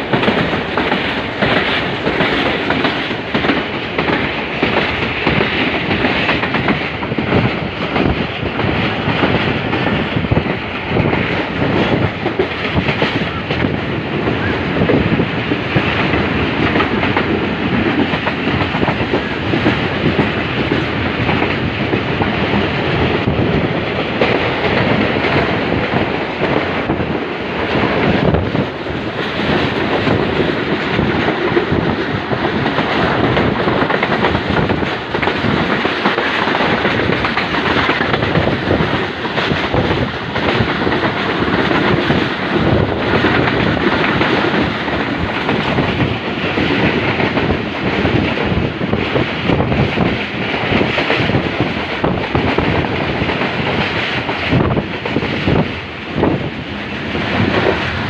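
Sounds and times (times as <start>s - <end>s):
train rumbling at speed: 0.0s - 58.0s.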